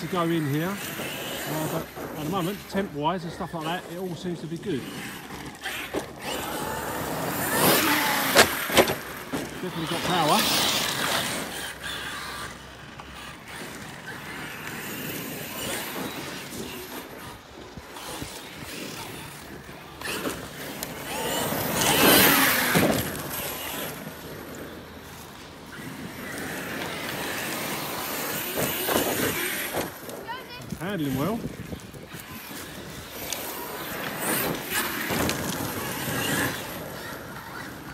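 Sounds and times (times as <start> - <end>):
electric motor whining: 0.0 - 37.9
tyres scrabbling on loose dirt: 0.0 - 37.9.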